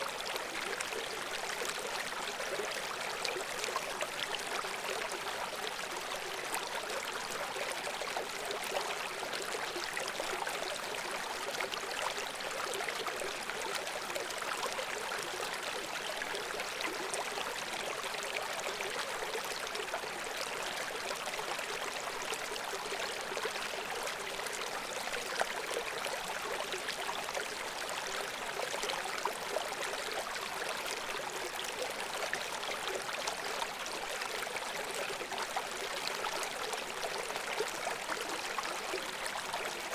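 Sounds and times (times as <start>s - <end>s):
brook water flowing over stones: 0.0s - 39.9s.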